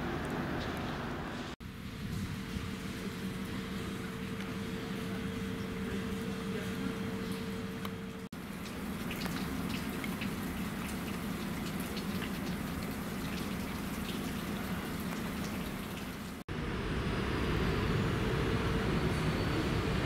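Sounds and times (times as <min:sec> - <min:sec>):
light rain and dripping water: 0:00.0 - 0:16.4
steady low hum: 0:00.0 - 0:20.0.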